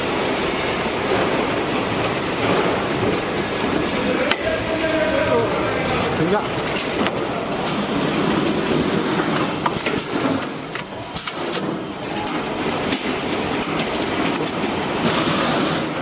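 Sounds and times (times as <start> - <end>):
bottling machinery running: 0.0 - 16.0
machine clicks and knocks: 0.0 - 16.0.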